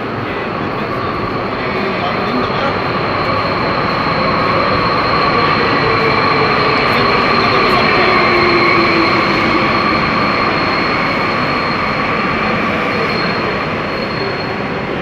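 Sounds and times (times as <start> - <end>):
train rumble: 0.0 - 15.0
high-pitched whining tones: 0.1 - 15.0.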